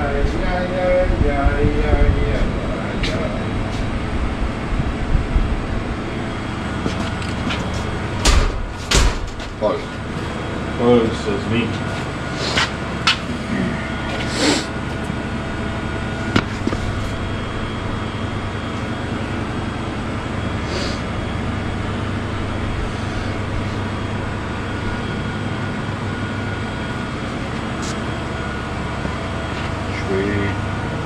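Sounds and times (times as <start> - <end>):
machine humming: 0.0 - 31.0.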